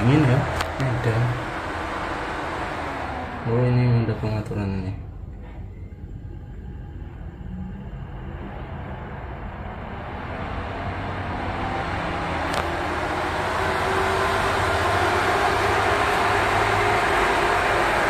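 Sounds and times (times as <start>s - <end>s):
cooling fans whirring: 0.0s - 18.0s.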